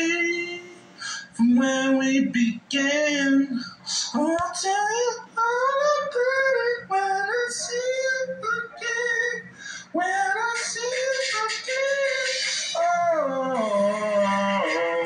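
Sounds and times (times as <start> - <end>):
high voice singing wordless notes: 0.0 - 15.0.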